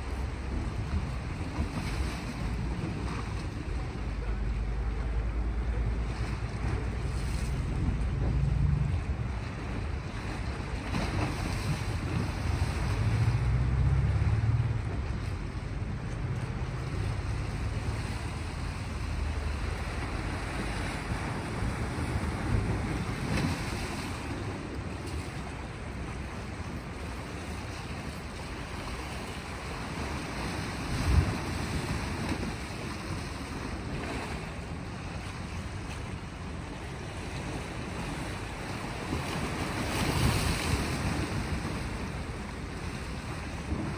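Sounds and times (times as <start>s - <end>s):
small waves washing on rocks: 0.0s - 43.9s.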